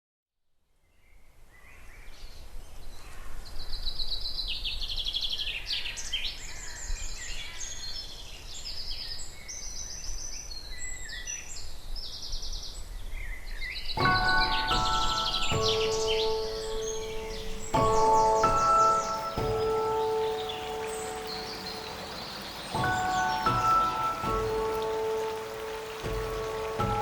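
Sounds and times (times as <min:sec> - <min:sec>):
woodland birds singing: 0:01.0 - 0:27.0.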